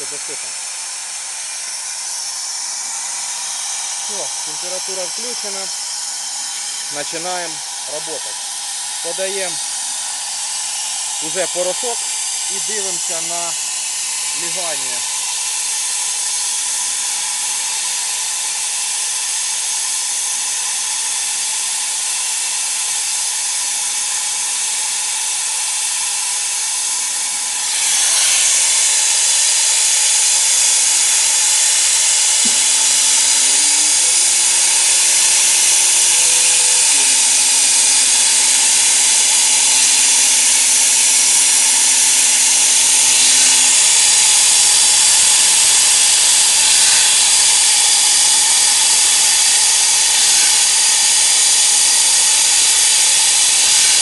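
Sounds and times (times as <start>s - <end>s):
spray gun hissing: 0.0s - 54.0s.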